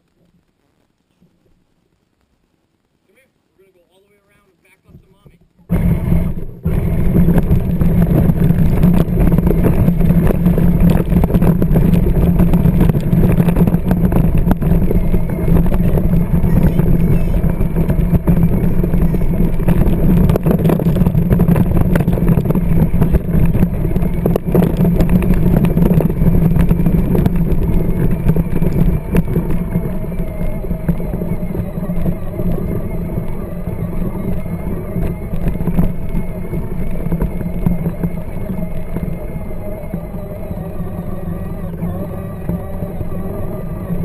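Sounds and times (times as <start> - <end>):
toy tractor electric motor drone: 5.7 - 44.0.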